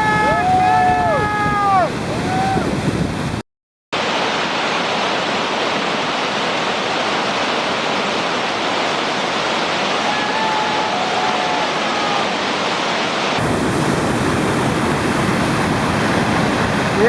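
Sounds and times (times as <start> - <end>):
waterfall rushing: 0.0 - 3.3, 4.0 - 17.0.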